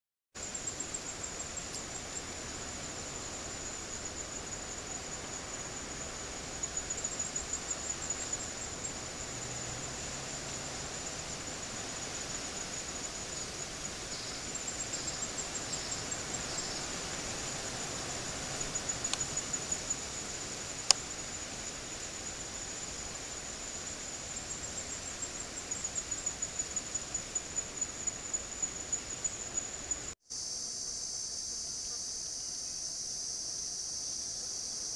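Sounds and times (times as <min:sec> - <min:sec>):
insects trilling: 0:00.4 - 0:34.9.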